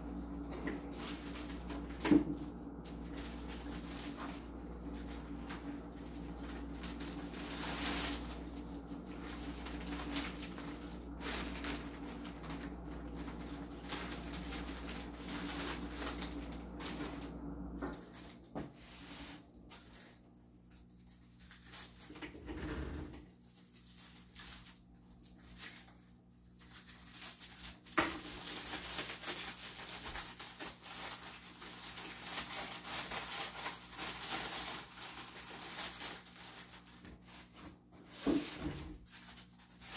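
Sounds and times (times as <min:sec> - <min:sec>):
low steady hum: 0:00.0 - 0:39.9
paper and plastic rustling: 0:00.0 - 0:39.9.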